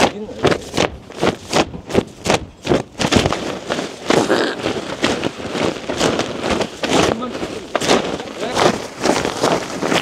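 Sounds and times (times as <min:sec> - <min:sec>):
nylon fabric flapping and snapping: 0:00.0 - 0:10.0.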